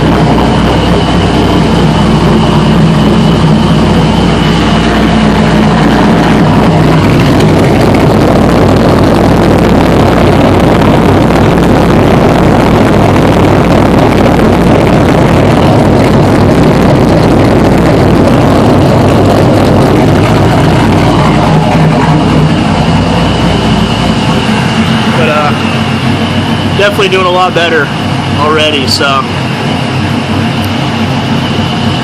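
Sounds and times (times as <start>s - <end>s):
car engine idling roughly: 0.0s - 32.0s.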